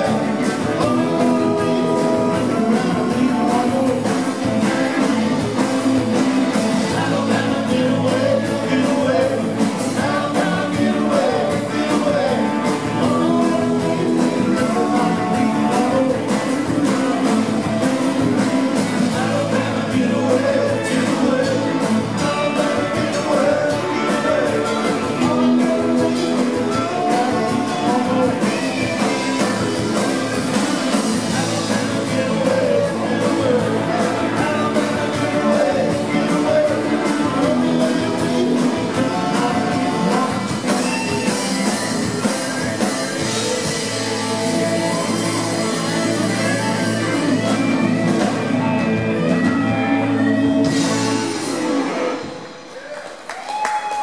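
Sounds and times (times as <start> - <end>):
man singing: 0.0 - 48.9
live rock band playing: 0.0 - 54.0.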